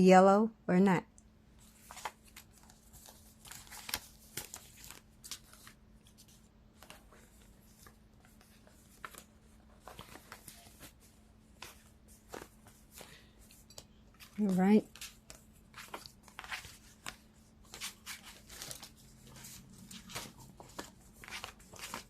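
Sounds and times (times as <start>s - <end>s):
playing cards shuffling: 1.6s - 22.0s.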